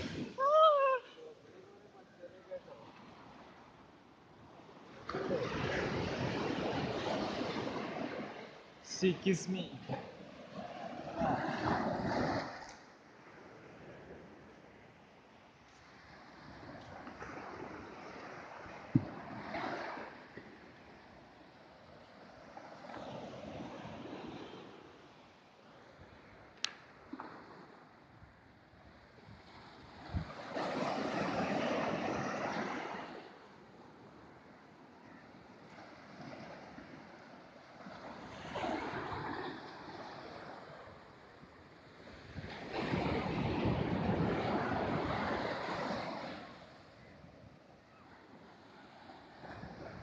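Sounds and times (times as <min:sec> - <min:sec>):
sea waves washing on sand: 0:00.0 - 0:01.3, 0:02.3 - 0:50.0.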